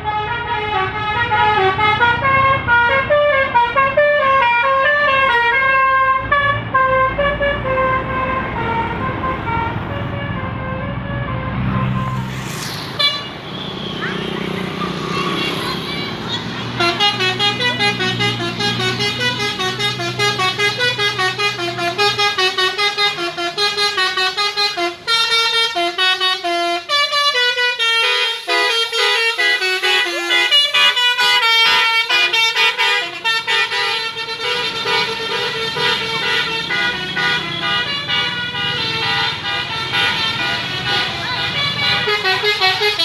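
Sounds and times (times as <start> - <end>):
melodic bus horn: 0.0 - 12.2, 13.0 - 43.0.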